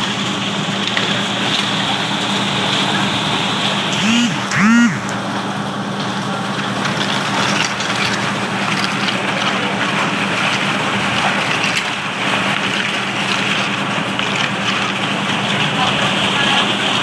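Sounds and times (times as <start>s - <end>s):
concrete mixer truck engine running: 0.0s - 17.0s.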